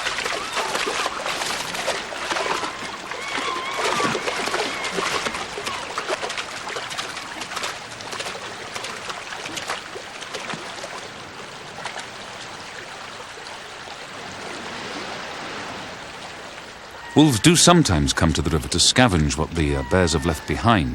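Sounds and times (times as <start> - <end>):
quick water splashes: 0.0 - 20.9
shallow river water running: 0.0 - 20.9.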